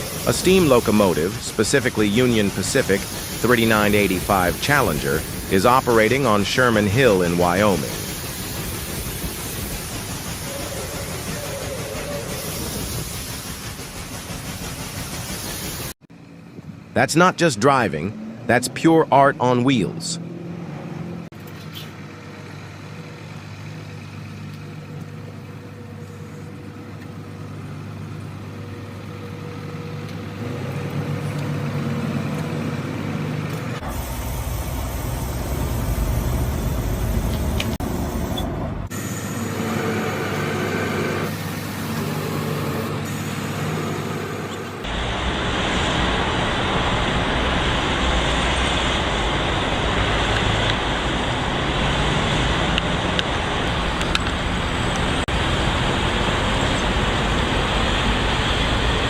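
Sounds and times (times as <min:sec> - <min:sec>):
motor vehicles running: 0:00.0 - 0:13.2, 0:16.1 - 0:59.0
road and traffic noise: 0:00.0 - 0:13.2, 0:16.0 - 0:59.0.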